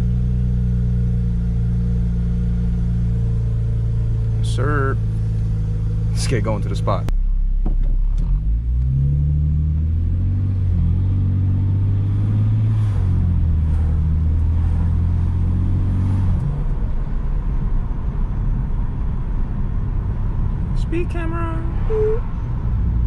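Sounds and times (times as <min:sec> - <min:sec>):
car engine drone from inside cabin: 0:00.0 - 0:23.0
low road rumble: 0:00.0 - 0:23.0.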